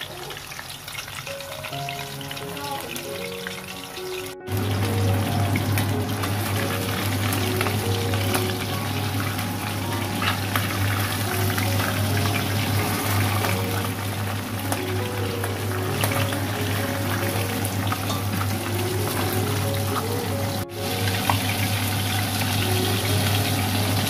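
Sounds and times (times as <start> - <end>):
fish sizzling in hot oil: 0.1 - 24.0.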